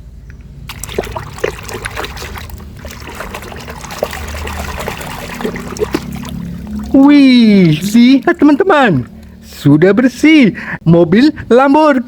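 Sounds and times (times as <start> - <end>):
water splashing and trickling: 0.6 - 10.3.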